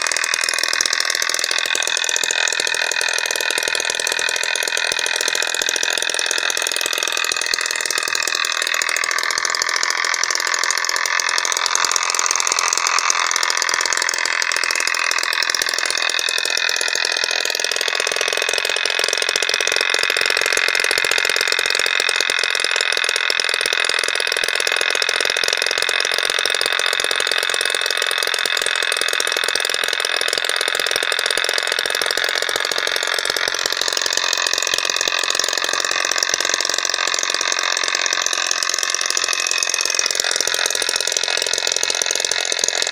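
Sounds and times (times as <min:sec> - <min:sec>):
small engine rattling buzz: 0:00.0 - 0:42.9.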